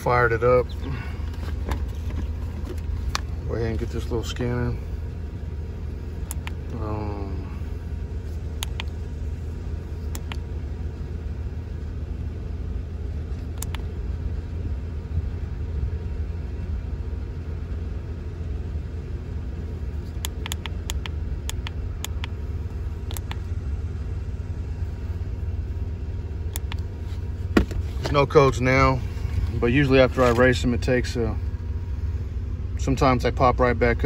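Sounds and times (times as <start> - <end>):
pickup engine idling: 0.0 - 34.0.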